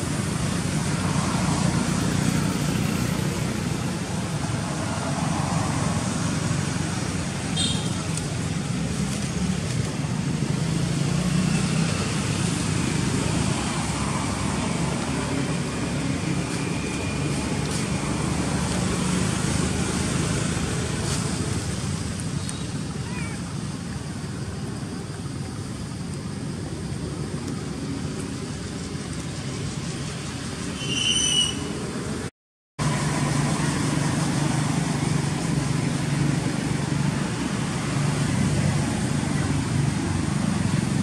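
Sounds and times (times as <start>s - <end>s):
low rumbling outdoor background noise: 0.0s - 41.0s.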